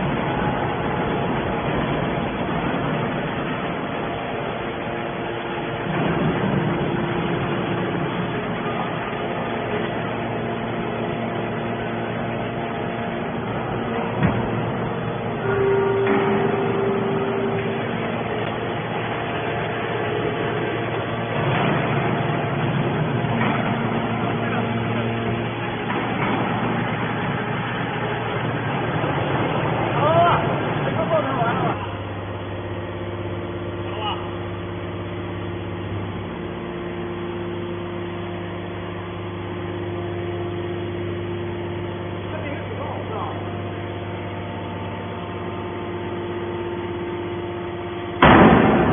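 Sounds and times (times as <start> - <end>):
motor and hydraulic pump running: 0.0 - 48.9.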